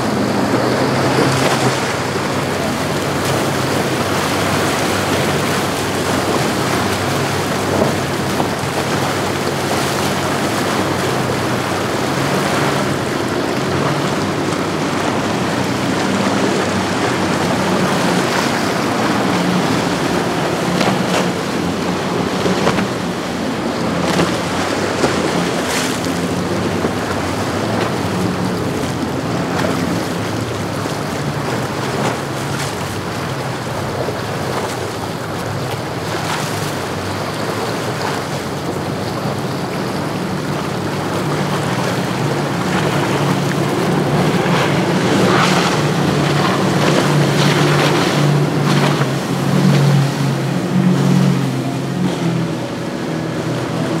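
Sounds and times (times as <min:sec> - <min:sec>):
outboard motors running: 0:00.0 - 0:54.0
rushing spray and waves: 0:00.0 - 0:54.0.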